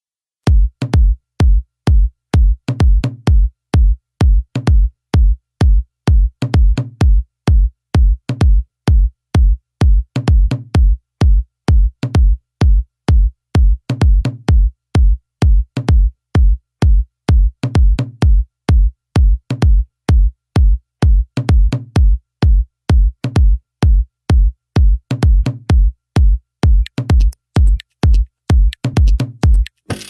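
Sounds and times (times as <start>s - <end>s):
drum machine kick drum: 0.4s - 30.0s.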